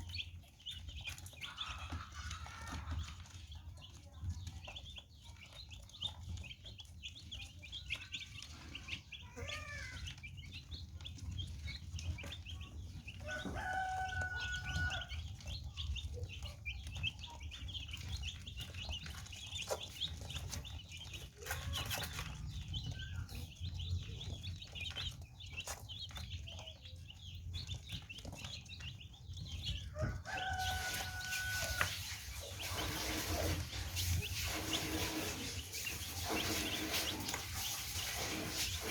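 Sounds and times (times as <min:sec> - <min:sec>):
baby chicks chirping: 0:00.0 - 0:38.9.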